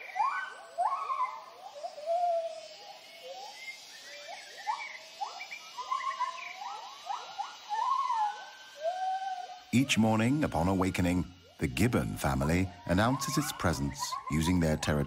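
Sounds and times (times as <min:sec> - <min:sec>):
gibbons hooting: 0:00.0 - 0:10.6, 0:11.9 - 0:15.0.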